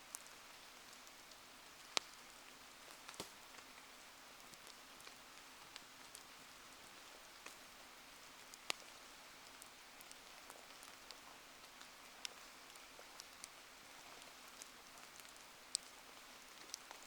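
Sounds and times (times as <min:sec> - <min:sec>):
faint rain hiss: 0:00.0 - 0:17.0
raindrops ticking: 0:00.1 - 0:17.0.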